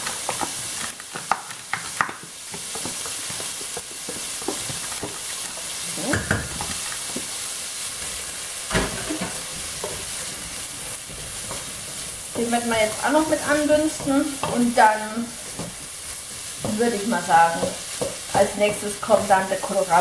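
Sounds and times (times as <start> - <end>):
wooden spoon scraping and stirring: 0.0 - 7.4, 8.8 - 20.0
food sizzling in a pot: 0.0 - 20.0.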